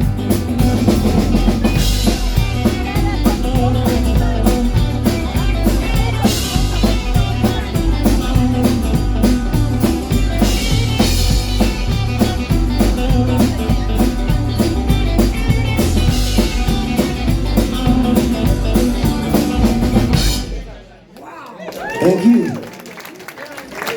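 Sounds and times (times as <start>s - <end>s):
drum kit beat: 0.0s - 20.8s
guitar: 0.0s - 21.0s.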